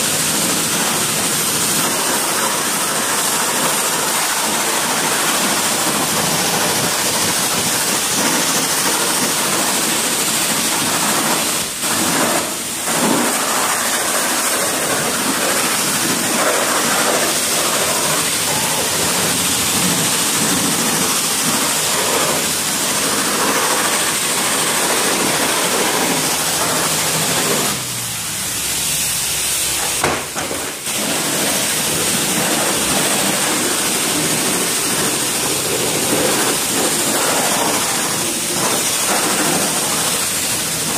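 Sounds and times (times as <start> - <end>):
pressure washer water spraying: 0.0 - 40.9.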